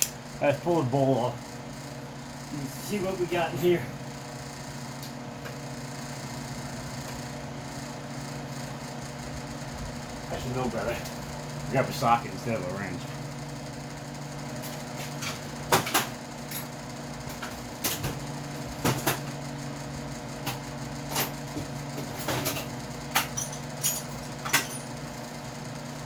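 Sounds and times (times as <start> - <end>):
shop fan humming: 0.0 - 26.0.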